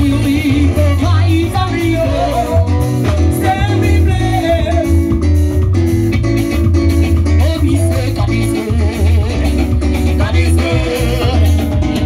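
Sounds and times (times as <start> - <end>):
person singing: 0.0 - 5.1, 7.4 - 12.0
live band playing: 0.0 - 12.0.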